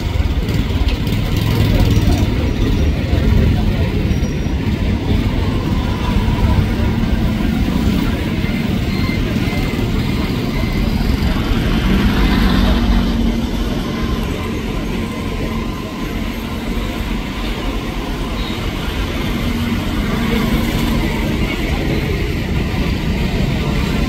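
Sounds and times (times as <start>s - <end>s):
motorcycles passing: 0.0s - 24.0s
street traffic din: 0.0s - 24.0s.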